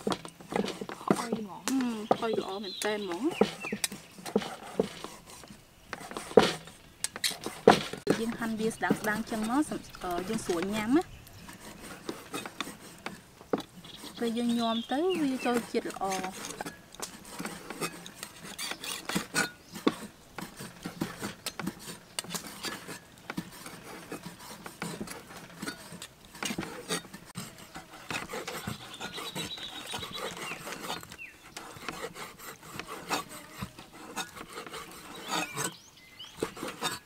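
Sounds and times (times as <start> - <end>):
cleaver chopping on wooden block: 0.0 - 11.0, 11.6 - 37.0.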